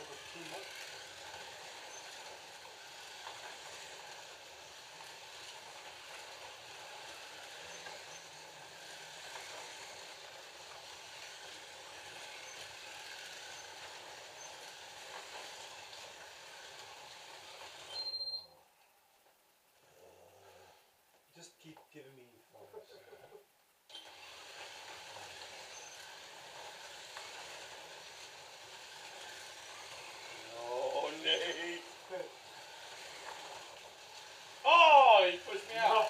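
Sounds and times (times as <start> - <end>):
slot car motors whirring: 0.0 - 18.0, 23.9 - 36.0.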